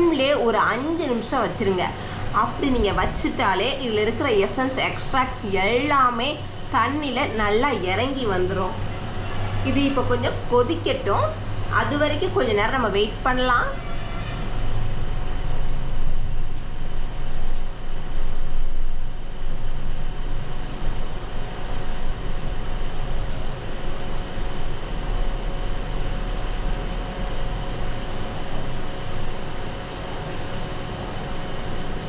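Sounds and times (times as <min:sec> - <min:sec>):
faint hum: 0:00.0 - 0:32.0
pot heating on stove: 0:00.0 - 0:32.0.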